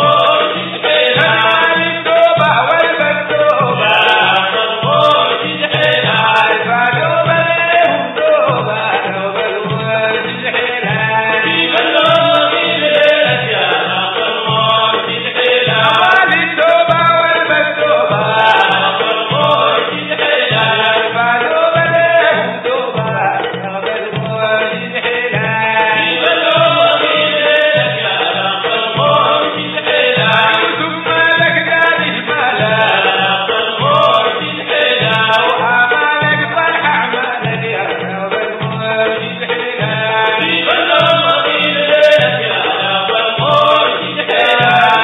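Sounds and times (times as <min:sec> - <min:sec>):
hand drums beating: 0:00.0 - 0:45.0
men singing together: 0:00.0 - 0:45.0.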